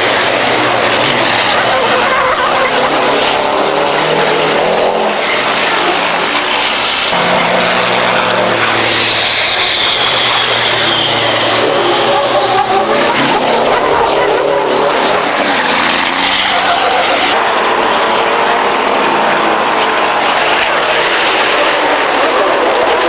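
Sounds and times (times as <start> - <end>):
diesel truck engines racing: 0.0 - 23.0.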